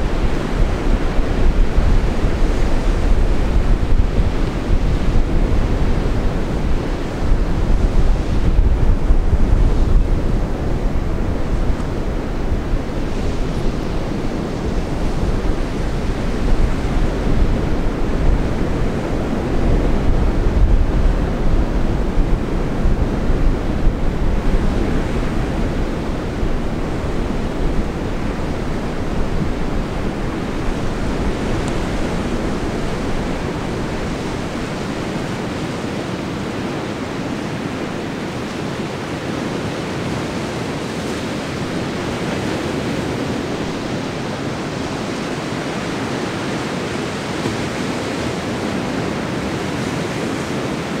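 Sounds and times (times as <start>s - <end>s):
ocean surf breaking: 0.0s - 51.0s.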